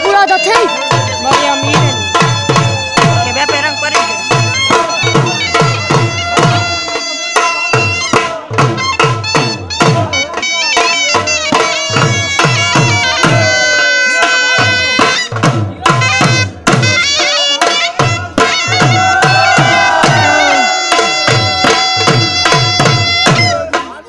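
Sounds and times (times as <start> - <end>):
double-reed pipe melody: 0.0 - 23.8
dhol beat: 0.0 - 24.0.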